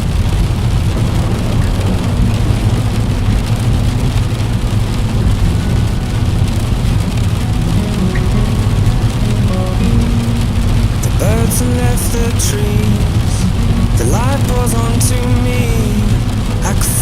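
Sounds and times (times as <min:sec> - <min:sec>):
deep low rumble: 0:00.0 - 0:17.0
heavy rain on window: 0:00.0 - 0:17.0.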